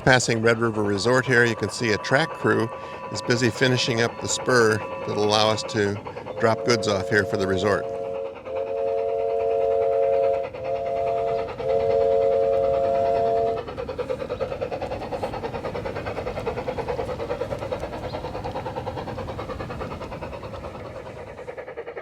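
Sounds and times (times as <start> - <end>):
model train rhythmic chuffing: 0.0 - 22.0.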